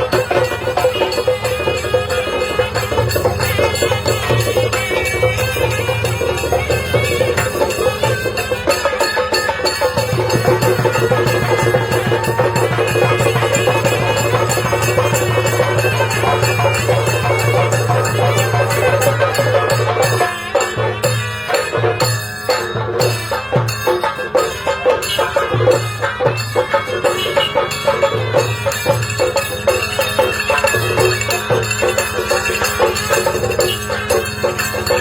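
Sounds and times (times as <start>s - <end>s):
percussion beat: 0.0s - 35.0s.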